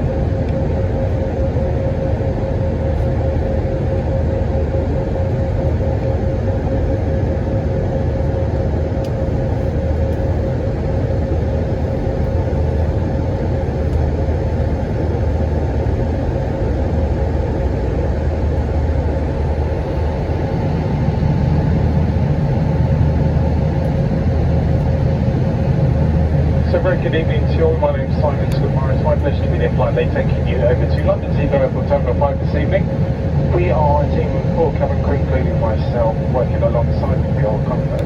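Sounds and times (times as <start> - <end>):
jet engine roar in cabin: 0.0 - 38.0.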